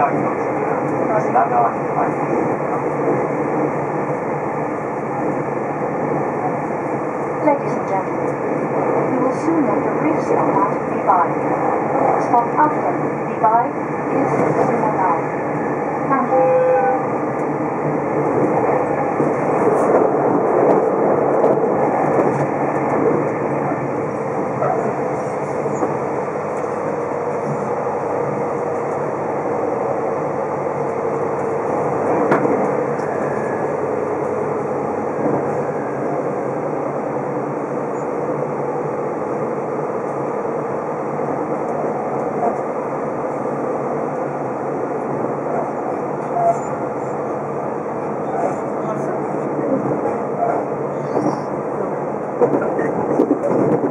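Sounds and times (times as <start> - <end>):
train running noise in cabin: 0.0 - 53.9.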